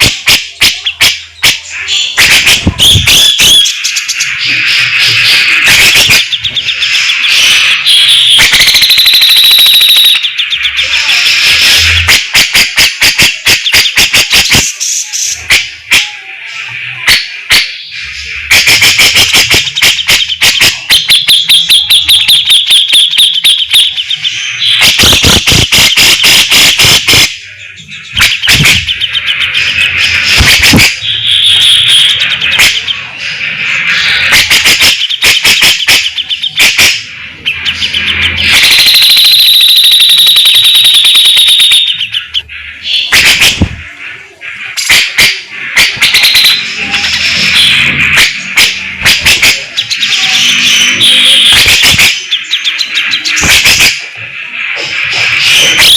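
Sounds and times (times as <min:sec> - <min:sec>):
bird raspy chattering trills: 0:00.0 - 0:55.9.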